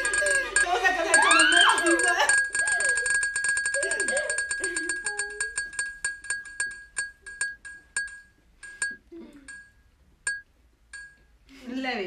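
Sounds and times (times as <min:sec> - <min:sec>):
prize wheel ticking: 0:00.0 - 0:11.2.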